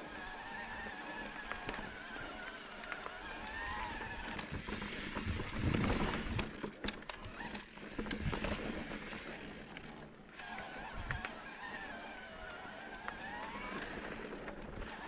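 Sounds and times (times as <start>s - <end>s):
bike clicks and rattles: 0.0s - 15.0s
bike tyres rolling on rough ground: 0.0s - 15.0s.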